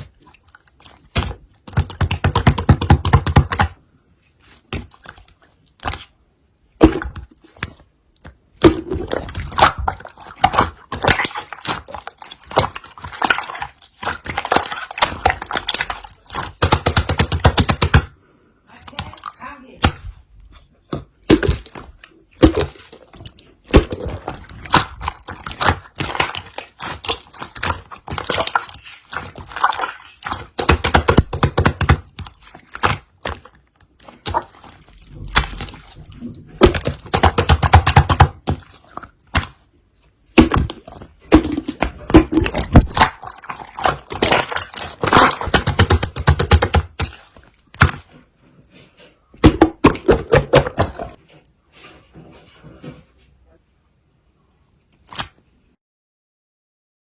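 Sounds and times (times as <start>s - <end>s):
slime squished by hand: 0.0s - 51.2s, 54.8s - 55.6s.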